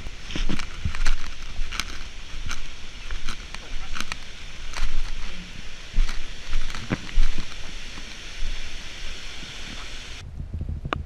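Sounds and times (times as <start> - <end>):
waterfall rushing: 0.0 - 10.2.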